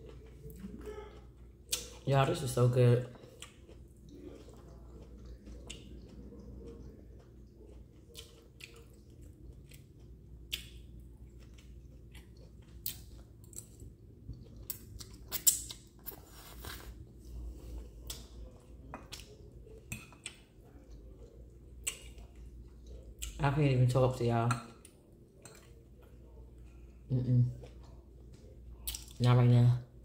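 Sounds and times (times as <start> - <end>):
person chewing: 0.0 - 23.4, 24.8 - 29.2.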